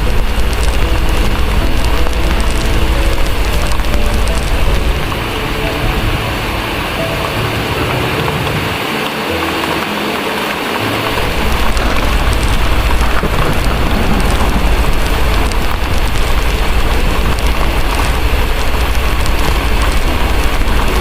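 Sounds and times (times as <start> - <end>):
low thunder rumble: 0.0 - 8.8, 11.0 - 21.0
heavy rain pouring: 0.0 - 21.0.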